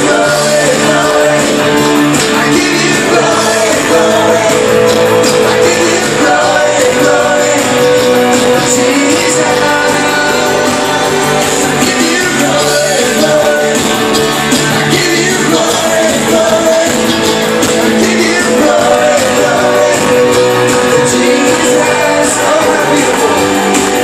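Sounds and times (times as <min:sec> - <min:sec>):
electric guitar: 0:00.0 - 0:24.0
voices singing along: 0:00.0 - 0:24.0
worship band playing: 0:00.0 - 0:24.0.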